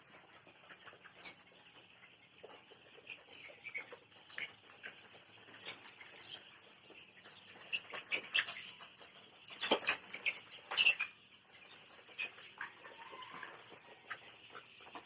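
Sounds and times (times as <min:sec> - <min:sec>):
chickens chirping and peeping: 0:00.0 - 0:15.0.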